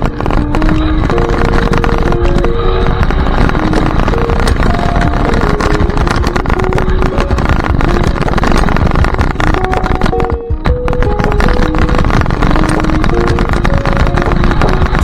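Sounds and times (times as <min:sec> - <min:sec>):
melody of short held notes: 0:00.0 - 0:15.0.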